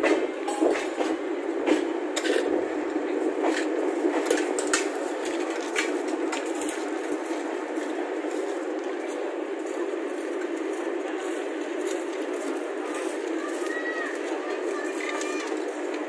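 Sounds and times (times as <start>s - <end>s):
passenger train rumble: 0.0s - 16.0s.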